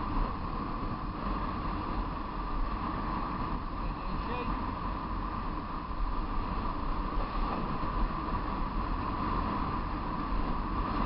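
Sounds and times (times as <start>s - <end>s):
low road rumble: 0.0s - 11.0s
wind rush on microphone: 0.0s - 11.0s.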